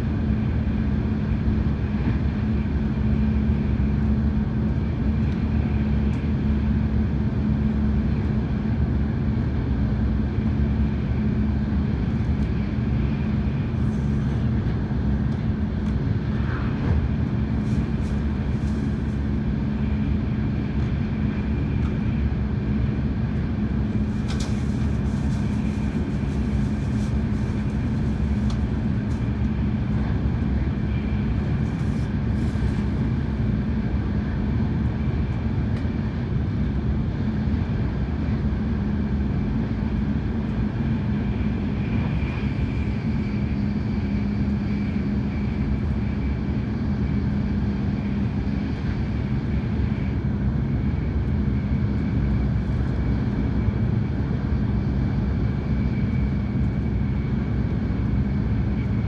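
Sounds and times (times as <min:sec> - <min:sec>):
faint steady whine: 0:00.0 - 0:59.0
train running noise inside carriage: 0:00.0 - 0:59.0.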